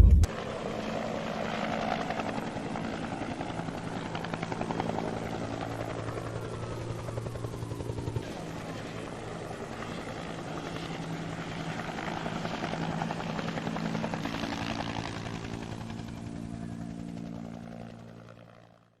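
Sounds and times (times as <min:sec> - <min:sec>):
helicopter rotor beating: 0:00.0 - 0:18.8.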